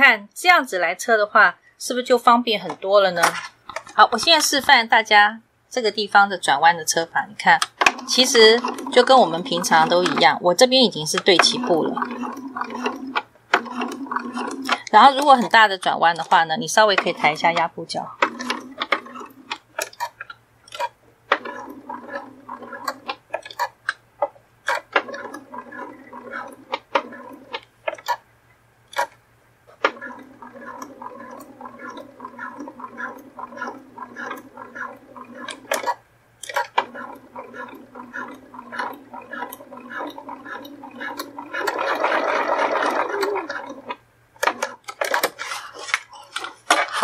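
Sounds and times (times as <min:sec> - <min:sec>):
sewing machine stitching: 0:07.6 - 0:28.2, 0:28.9 - 0:47.0.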